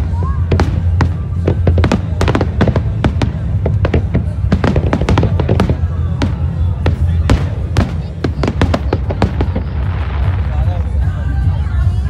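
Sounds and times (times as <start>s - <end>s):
fireworks bursting and crackling: 0.0s - 11.6s.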